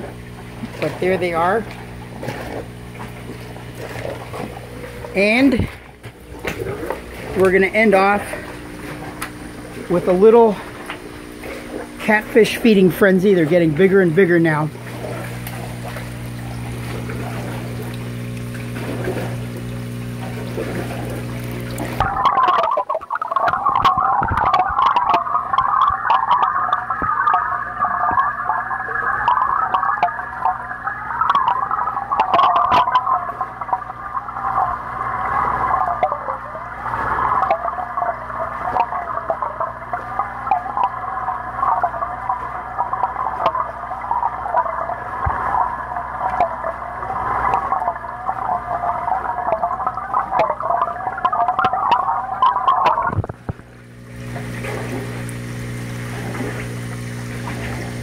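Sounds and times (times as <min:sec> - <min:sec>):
underwater bubbling and gurgling: 0:00.0 - 0:58.0.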